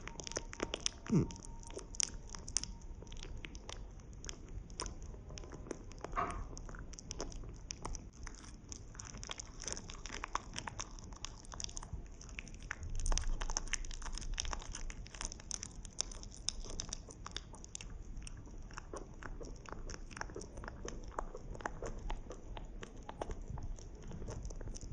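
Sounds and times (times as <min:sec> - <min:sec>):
rabbit chewing food: 0:00.0 - 0:24.9.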